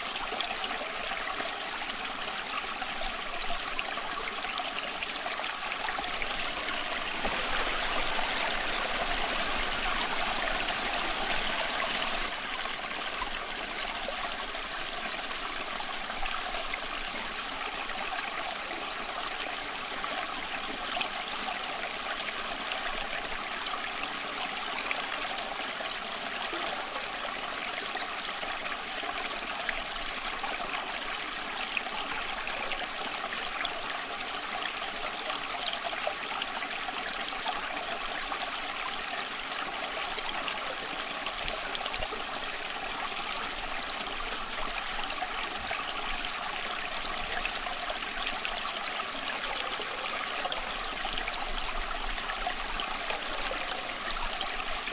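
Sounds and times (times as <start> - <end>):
stream trickling over stones: 0.0 - 54.9.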